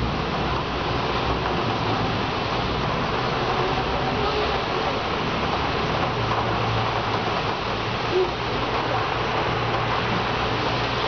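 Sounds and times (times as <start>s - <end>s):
rain on metal window ledge: 0.0s - 11.0s.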